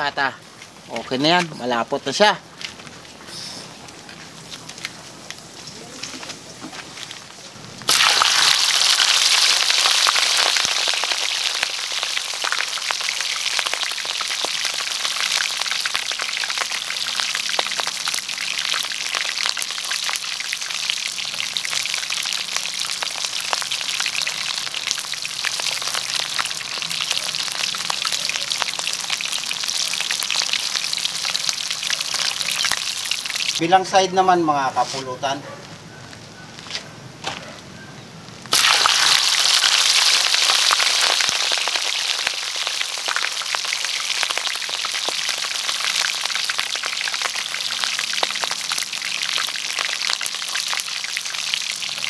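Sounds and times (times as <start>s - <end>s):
meat frying in hot oil: 4.3s - 34.0s, 38.4s - 52.0s.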